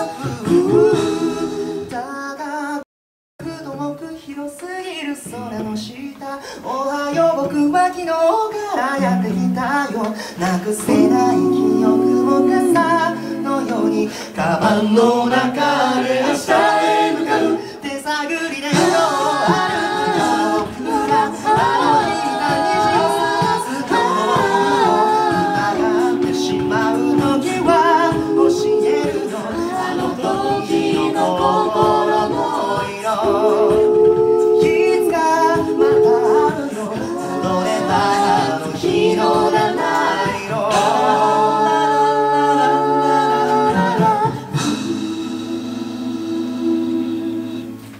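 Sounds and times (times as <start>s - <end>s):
vocal percussion beat: 0.0s - 2.5s, 3.4s - 47.9s
a cappella group singing: 0.0s - 2.8s, 3.4s - 47.9s.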